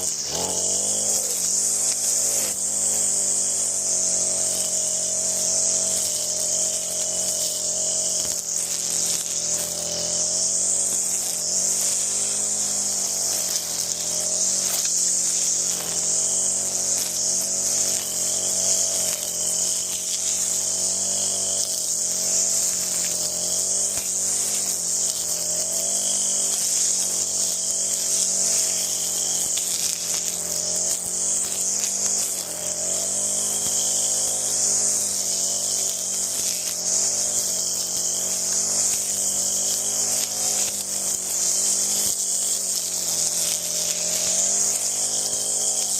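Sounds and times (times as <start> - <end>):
string trimmer engine running: 0.0 - 45.9.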